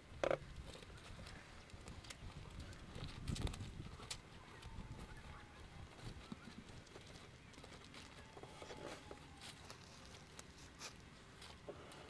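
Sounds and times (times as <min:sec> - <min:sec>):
horse hooves on grass: 0:00.0 - 0:12.0
boots walking on grass: 0:00.9 - 0:12.0.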